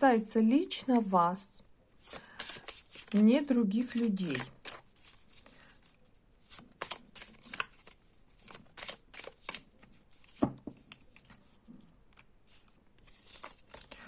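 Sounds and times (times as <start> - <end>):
cards being shuffled: 2.0 - 14.0.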